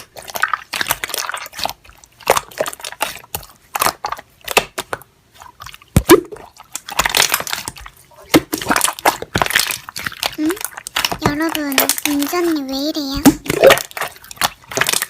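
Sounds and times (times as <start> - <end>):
slime squelching by hand: 0.0 - 15.0.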